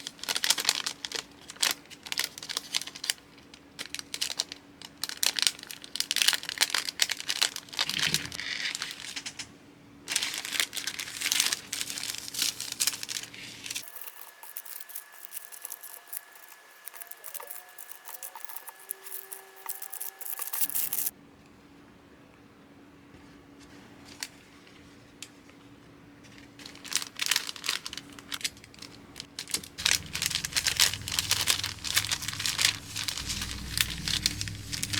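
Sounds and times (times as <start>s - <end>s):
plastic packaging crinkling: 0.0s - 9.4s, 10.1s - 21.1s, 26.3s - 34.9s
plastic tearing: 0.0s - 9.4s, 10.1s - 21.1s, 26.6s - 34.9s.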